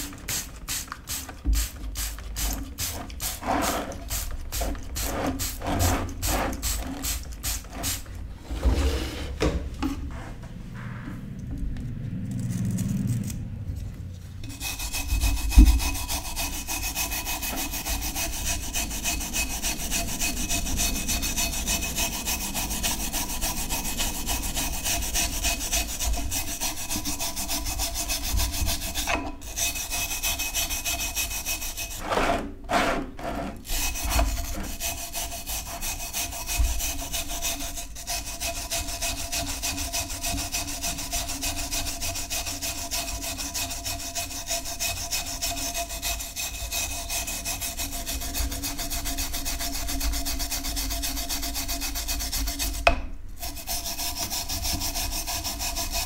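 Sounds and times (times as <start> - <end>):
wire brush scrubbing metal: 0.0 - 8.8, 14.4 - 56.0.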